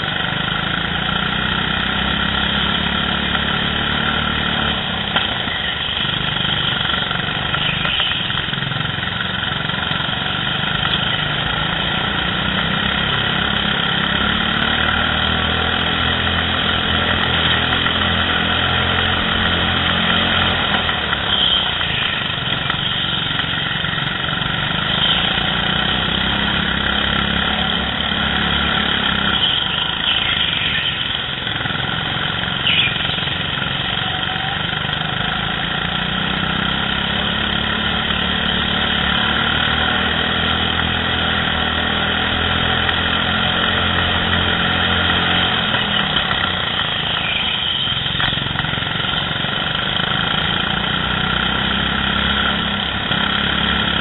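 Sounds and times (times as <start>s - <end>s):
go-kart engines racing: 0.0s - 54.0s.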